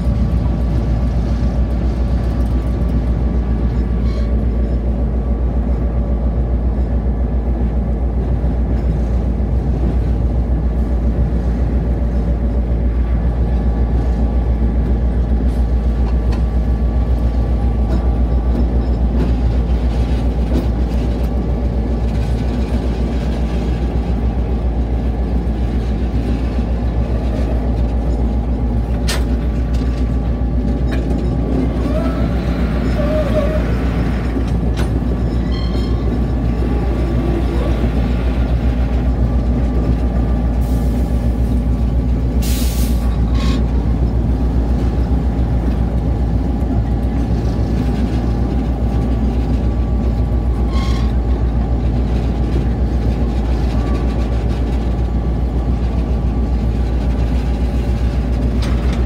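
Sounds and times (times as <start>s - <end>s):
diesel locomotive engine drone: 0.0s - 59.0s
wheels rumbling on rail: 0.0s - 59.0s.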